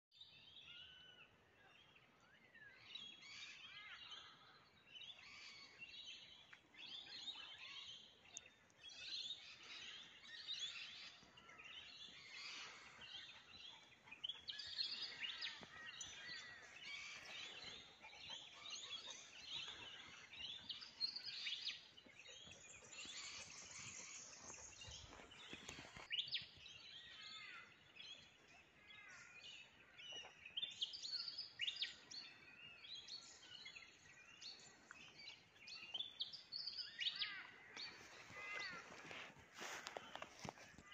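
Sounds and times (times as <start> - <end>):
birds chirping and warbling: 0.2 - 40.9.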